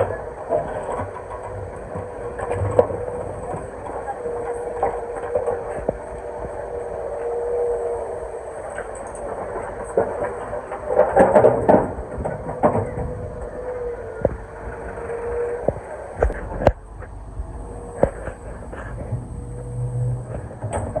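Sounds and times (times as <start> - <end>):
excavator engine whine and rumble: 0.0 - 21.0.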